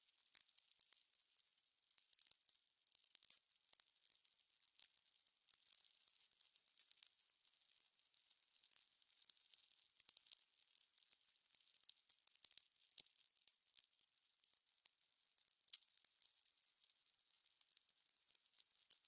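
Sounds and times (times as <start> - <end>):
fire crackling and popping: 0.1 - 19.0.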